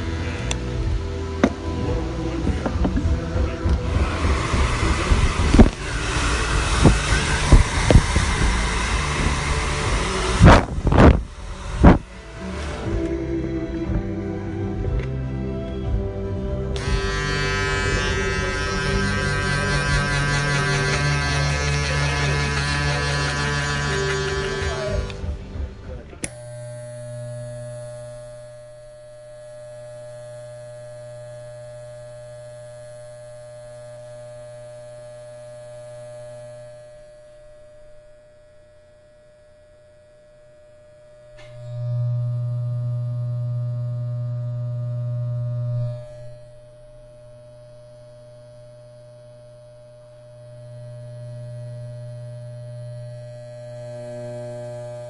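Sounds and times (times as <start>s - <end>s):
electric hair clippers buzzing: 0.0s - 14.1s, 16.7s - 55.0s.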